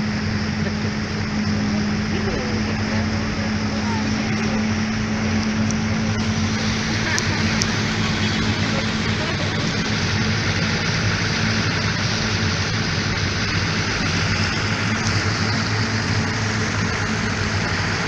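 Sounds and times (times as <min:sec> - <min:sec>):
motorboat engine humming: 0:00.0 - 0:18.0
rushing water: 0:00.0 - 0:18.0
wind: 0:00.0 - 0:18.0.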